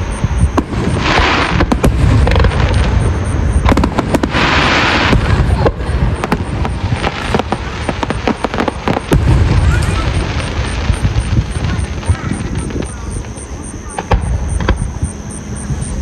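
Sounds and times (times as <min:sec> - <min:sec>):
crackling hiss: 0:00.0 - 0:16.0
fireworks deep booms: 0:00.0 - 0:16.0
fireworks cracks and pops: 0:00.5 - 0:15.0.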